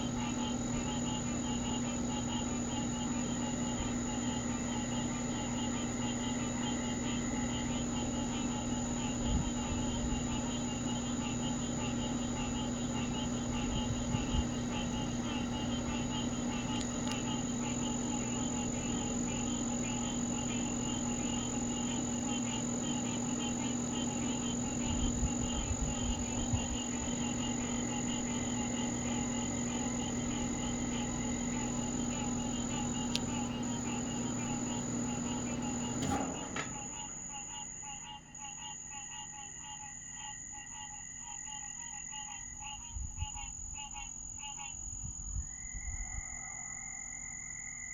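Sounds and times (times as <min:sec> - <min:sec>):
frogs and insects trilling: 0:00.0 - 0:35.9, 0:36.8 - 0:47.9
steady high whine: 0:00.0 - 0:47.9
steady low hum: 0:00.0 - 0:47.9.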